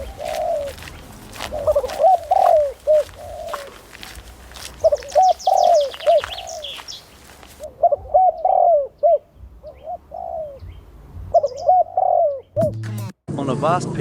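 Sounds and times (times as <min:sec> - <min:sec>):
dove cooing: 0:00.0 - 0:12.6
small birds chirping: 0:00.0 - 0:12.6.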